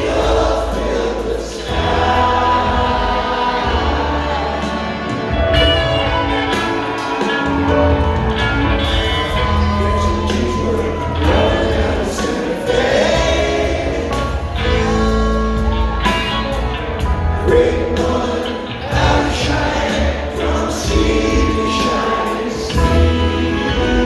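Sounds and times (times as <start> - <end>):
several voices singing: 0.0 - 16.3, 17.2 - 24.0
live rock band playing: 0.0 - 24.0.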